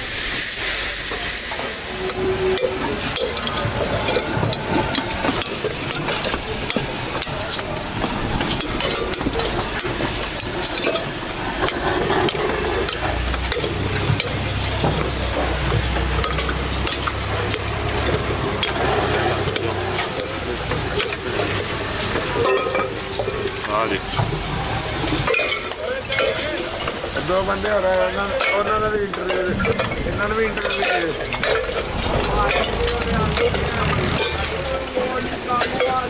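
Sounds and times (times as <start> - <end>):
crackling hiss: 0.0 - 36.0.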